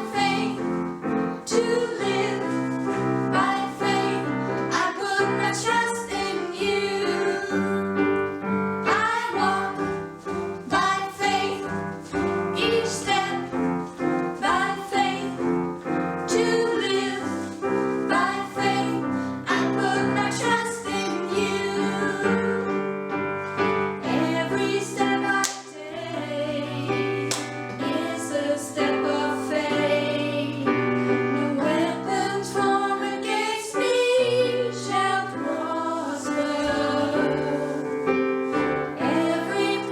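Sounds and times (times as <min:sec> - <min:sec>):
people singing worship song: 0:00.0 - 0:39.9
piano accompaniment: 0:00.0 - 0:39.9.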